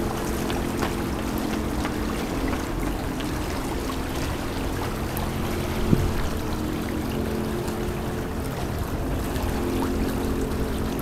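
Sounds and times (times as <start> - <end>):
low hum: 0.0 - 11.0
water lapping at bank: 0.0 - 11.0.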